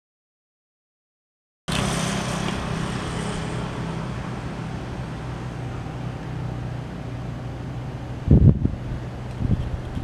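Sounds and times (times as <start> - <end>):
road and wind noise: 1.7 - 10.0
vehicle engine running: 1.7 - 10.0.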